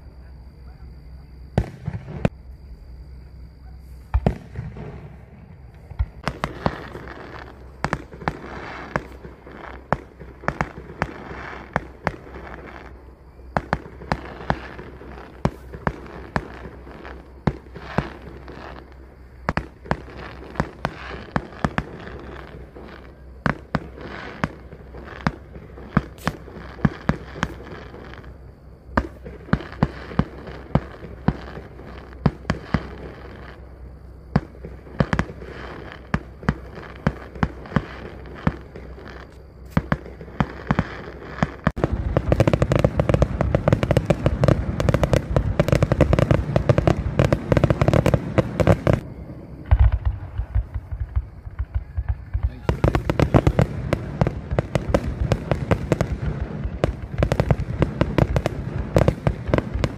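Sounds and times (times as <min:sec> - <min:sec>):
fireworks barrage crackling: 0:00.0 - 0:02.4, 0:03.6 - 0:59.9
fireworks bursting: 0:01.2 - 0:02.5, 0:03.6 - 0:59.9.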